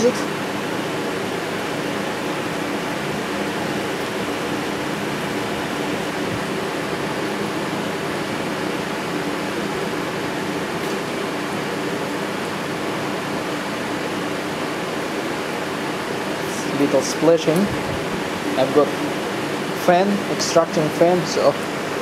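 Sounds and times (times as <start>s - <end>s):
extraction fan rushing: 0.0s - 22.0s.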